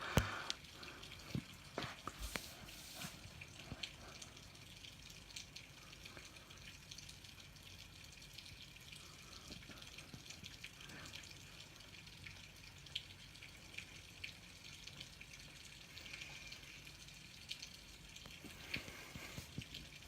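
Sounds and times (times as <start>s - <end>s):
low hiss: 0.0s - 20.0s
rainwater dripping: 0.0s - 20.0s.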